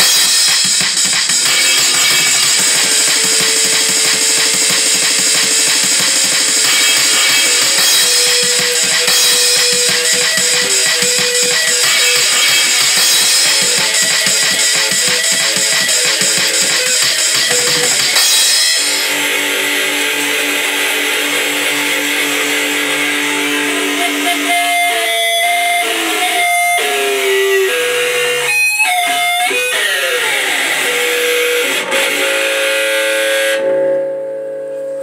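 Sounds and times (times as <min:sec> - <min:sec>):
distorted electric guitar: 0:00.0 - 0:35.0
amplifier feedback howling: 0:01.4 - 0:35.0.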